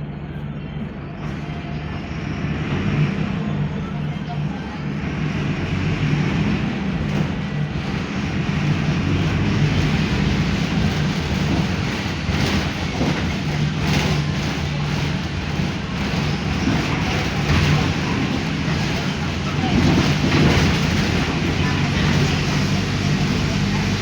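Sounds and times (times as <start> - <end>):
bus diesel engine running: 0.0 - 24.0
road and body noise: 0.0 - 24.0.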